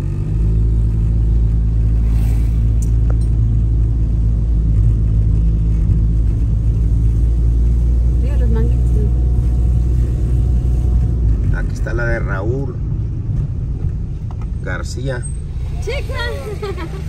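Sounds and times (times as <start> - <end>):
car engine and tyre drone: 0.0 - 17.0.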